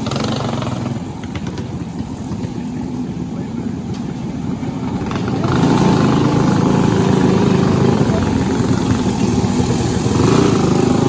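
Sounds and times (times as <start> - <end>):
kart engine running: 0.0 - 11.0.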